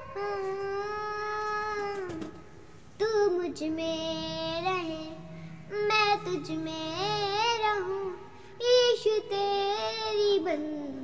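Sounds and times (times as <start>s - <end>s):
girl singing: 0.0s - 11.0s.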